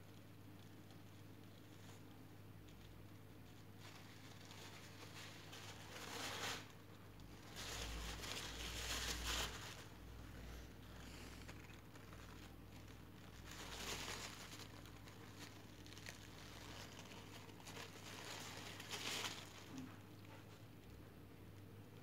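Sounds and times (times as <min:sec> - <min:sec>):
paper tissue rustling: 0:00.6 - 0:20.5.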